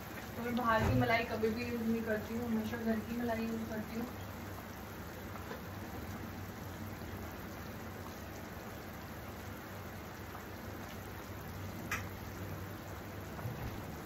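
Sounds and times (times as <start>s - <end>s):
gravy bubbling and popping: 0.0s - 14.0s.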